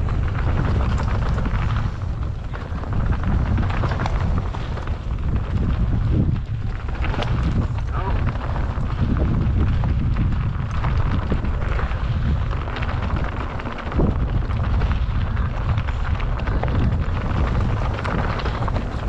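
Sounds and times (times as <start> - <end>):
bike rattling and knocking: 0.0 - 19.0
tyres rolling over dirt and rocks: 0.0 - 19.0
wind buffeting microphone: 0.0 - 19.0.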